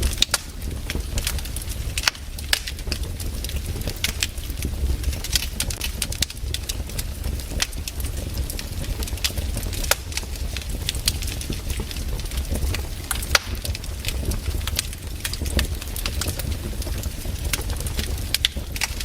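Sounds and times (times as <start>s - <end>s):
firewood crackling and popping: 0.0s - 19.0s
low fire rumble: 0.0s - 19.0s.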